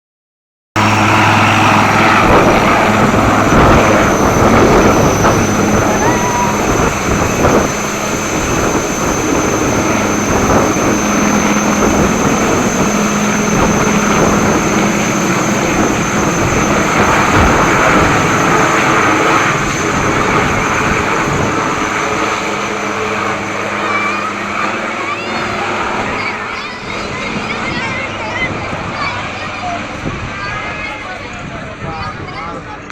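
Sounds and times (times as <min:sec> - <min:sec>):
helicopter rotor and engine: 0:00.8 - 0:32.9
high turbine whine: 0:00.8 - 0:32.9.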